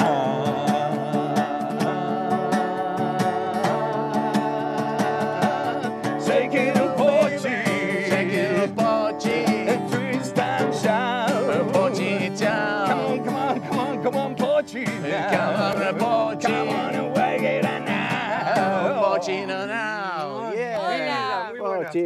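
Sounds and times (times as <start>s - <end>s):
acoustic guitar strummed: 0.0s - 21.2s
voices singing: 0.0s - 22.0s.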